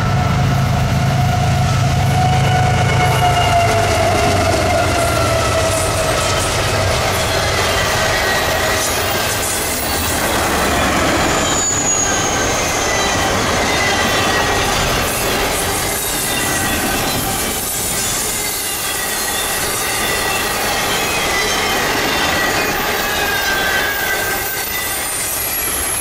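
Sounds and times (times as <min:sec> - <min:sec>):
diesel locomotive rumble: 0:00.0 - 0:22.0
train wheels on rails: 0:00.0 - 0:26.0
wheels squealing: 0:01.0 - 0:26.0.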